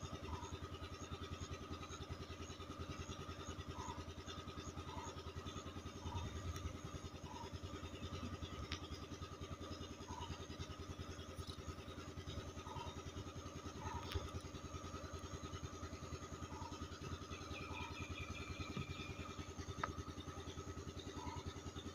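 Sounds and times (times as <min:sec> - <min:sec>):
motor running with pulsing drone: 0:00.0 - 0:21.9.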